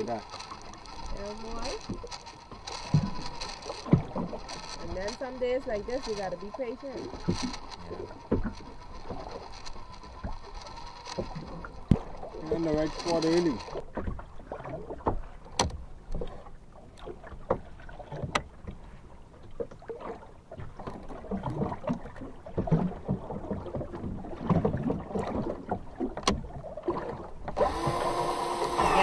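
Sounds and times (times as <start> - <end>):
water lapping against a boat hull: 0.0 - 29.0.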